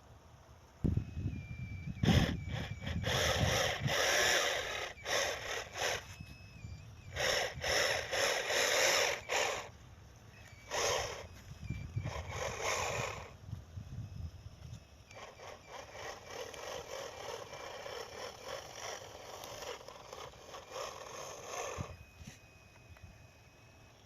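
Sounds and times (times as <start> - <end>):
small electric motor grinding whir: 0.8 - 24.0.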